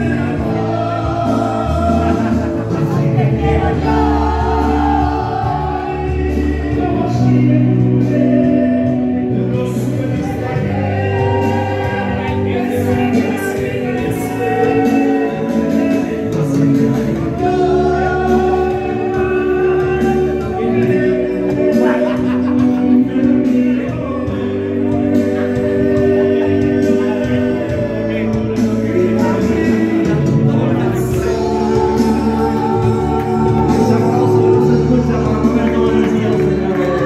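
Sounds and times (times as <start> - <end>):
man singing into a microphone: 0.0 - 37.0
musical accompaniment: 0.0 - 37.0.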